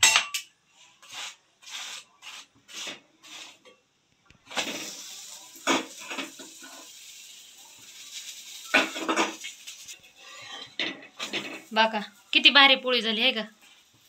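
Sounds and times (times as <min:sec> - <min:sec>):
metal spatula scraping: 0:00.0 - 0:03.8, 0:04.4 - 0:12.4
steady sizzle: 0:00.7 - 0:14.0.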